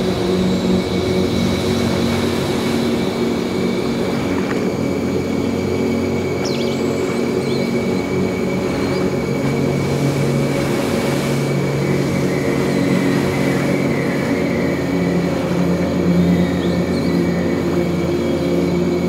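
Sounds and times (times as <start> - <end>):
low droning hum: 0.0 - 19.0.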